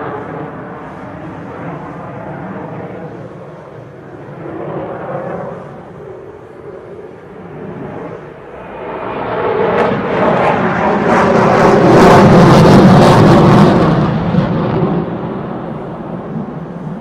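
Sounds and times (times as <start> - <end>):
jet airplane passing overhead: 0.0 - 17.0.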